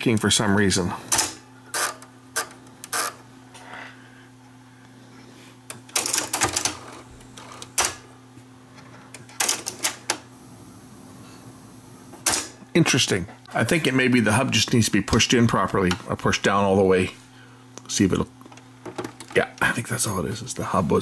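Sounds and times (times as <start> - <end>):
cassette mechanism humming: 0.0 - 21.0.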